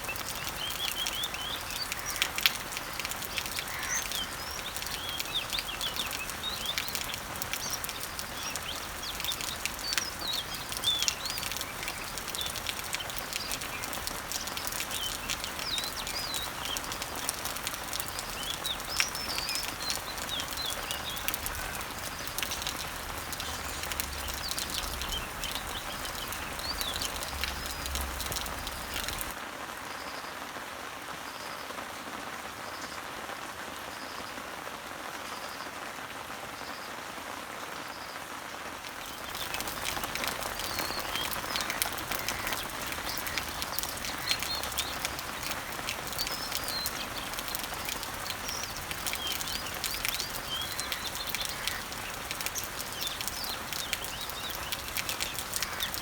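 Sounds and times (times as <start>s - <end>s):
small birds chirping: 0.0s - 29.4s, 38.8s - 56.0s
rain falling on leaves: 0.0s - 56.0s.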